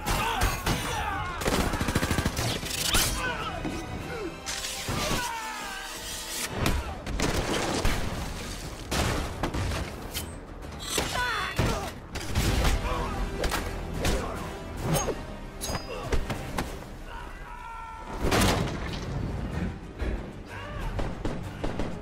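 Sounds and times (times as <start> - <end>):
action film music score: 0.0 - 22.0.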